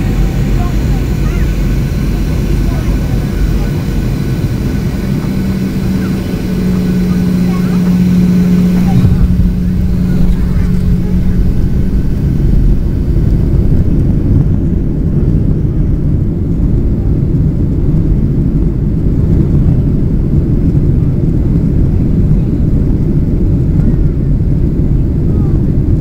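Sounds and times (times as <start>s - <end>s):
jet cabin rumble: 0.0s - 26.0s
steady engine tone: 0.0s - 26.0s.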